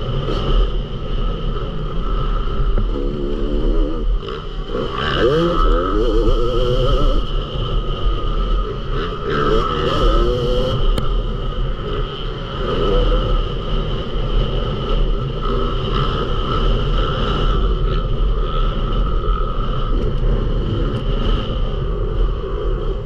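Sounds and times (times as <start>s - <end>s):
motocross bike engine revving: 0.0s - 21.7s
wind rumble: 0.0s - 23.0s.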